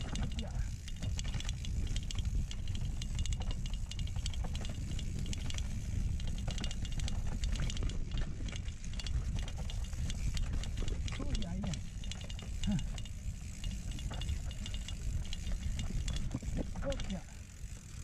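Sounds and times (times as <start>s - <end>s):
bike rattling and clicking: 0.0s - 18.0s.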